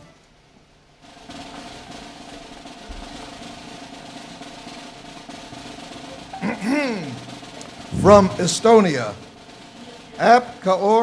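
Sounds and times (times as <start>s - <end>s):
drum roll: 1.0s - 11.0s.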